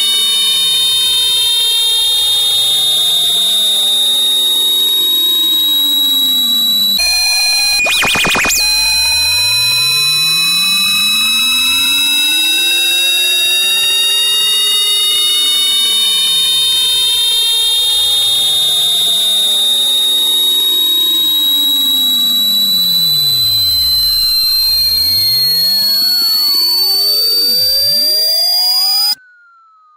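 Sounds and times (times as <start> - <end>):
high-pitched electronic whine: 0.0 - 29.9.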